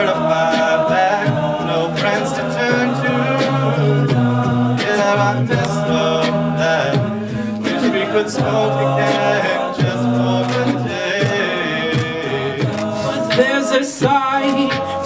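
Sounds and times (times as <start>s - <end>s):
men singing chords in harmony: 0.0s - 15.0s
solo singer: 0.0s - 15.0s
vocal percussion beat: 0.0s - 15.0s.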